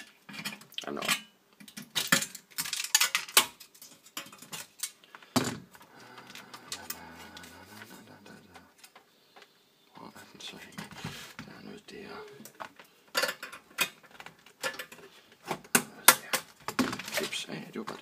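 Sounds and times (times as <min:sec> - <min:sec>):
quiet handling sounds: 0:00.0 - 0:18.0.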